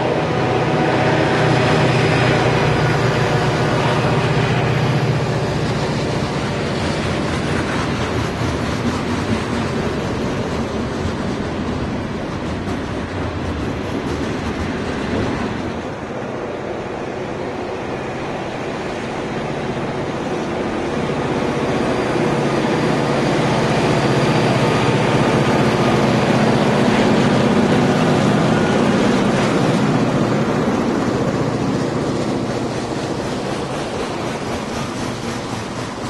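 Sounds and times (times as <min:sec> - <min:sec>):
diesel locomotive engines: 0:00.0 - 0:36.0
freight cars rolling on rails: 0:00.0 - 0:36.0.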